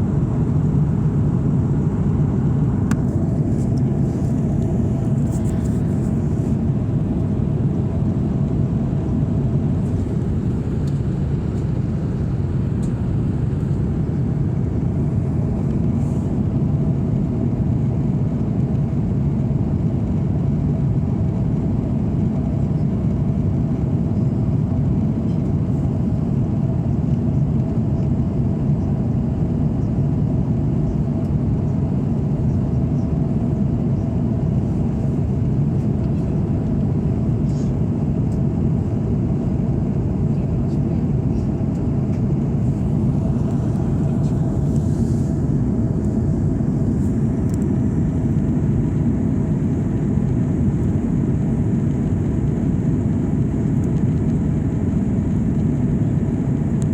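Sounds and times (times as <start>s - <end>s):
aircraft cabin rumble: 0.0s - 56.9s
faint steady hum: 0.0s - 56.9s.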